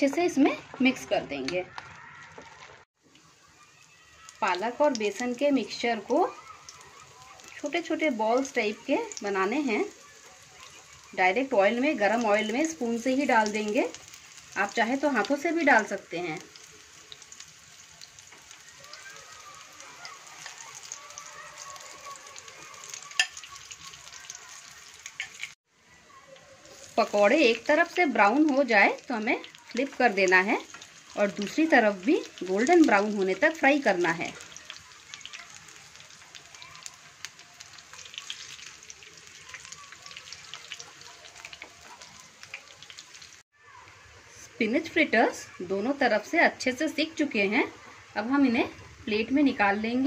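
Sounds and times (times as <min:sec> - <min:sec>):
fritters sizzling in hot oil: 0:00.0 - 0:50.0.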